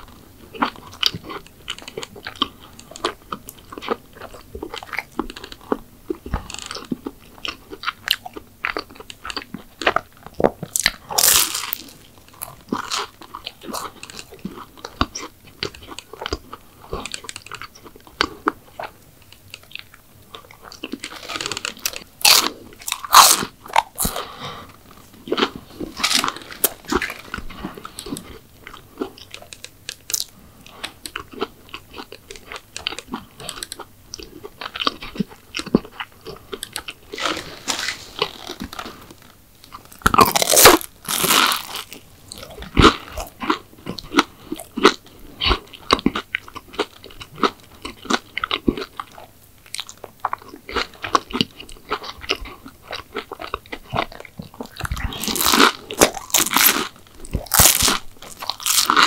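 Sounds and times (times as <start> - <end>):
crunchy bites and chewing: 0.5 - 59.0.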